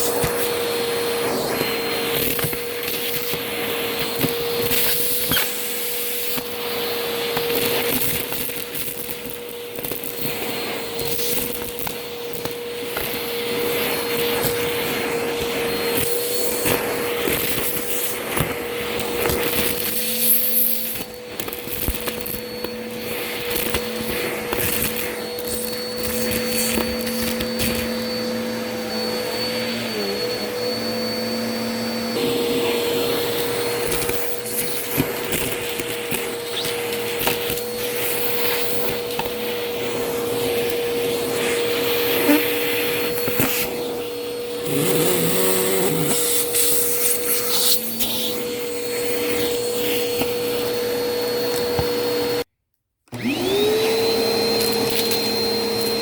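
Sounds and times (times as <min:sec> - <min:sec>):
vacuum cleaner running: 0:00.0 - 0:52.5, 0:53.1 - 0:56.0.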